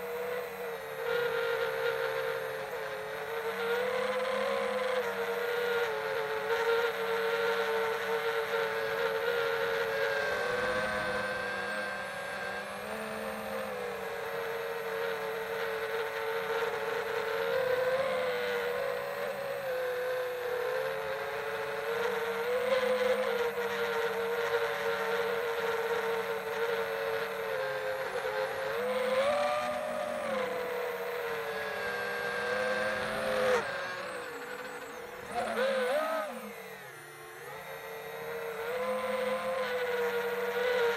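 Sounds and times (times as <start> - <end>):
drone motors and propellers whining: 0.0 - 40.9.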